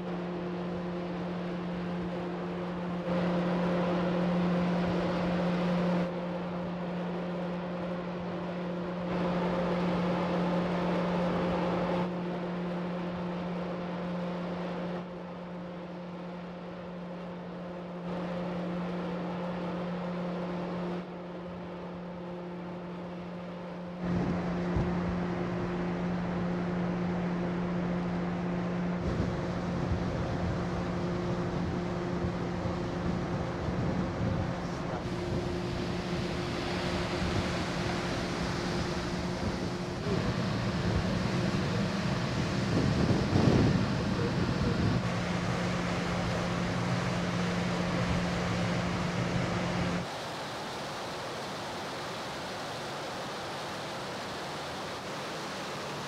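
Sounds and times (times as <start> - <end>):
ship machinery drone: 0.0 - 56.0
wind and sea rushing: 0.0 - 56.0.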